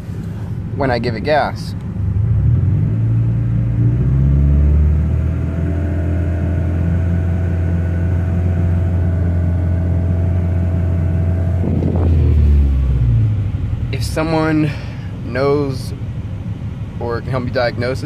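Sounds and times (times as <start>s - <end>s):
car engine idling: 0.0s - 3.9s, 5.2s - 18.0s.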